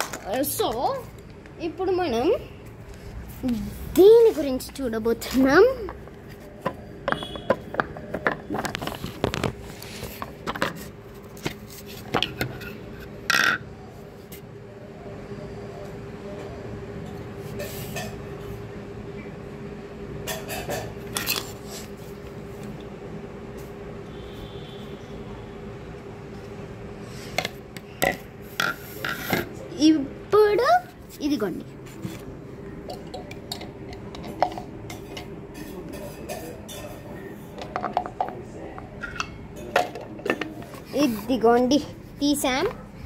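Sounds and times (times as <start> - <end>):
steady background hum and hiss: 0.0 - 43.0.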